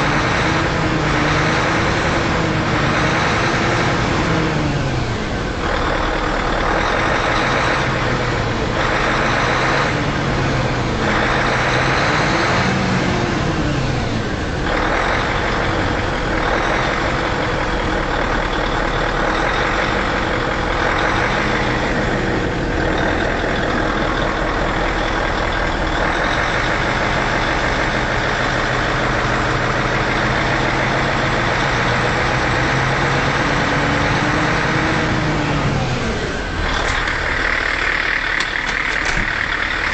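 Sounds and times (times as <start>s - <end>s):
engine idling with throttle blips: 0.0s - 39.9s.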